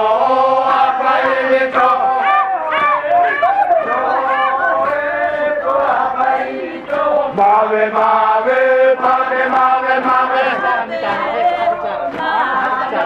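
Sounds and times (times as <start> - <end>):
group chanting in long notes: 0.0 - 13.0.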